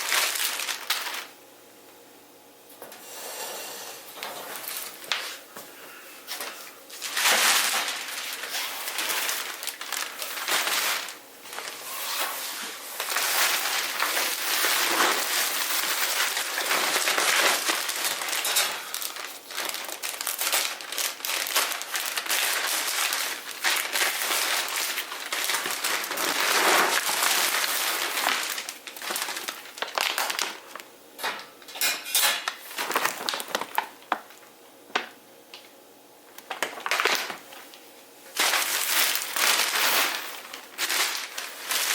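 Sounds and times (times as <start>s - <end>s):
packaging crinkling: 0.0s - 1.4s, 4.2s - 5.2s, 6.4s - 30.9s, 32.4s - 35.1s, 36.4s - 41.9s.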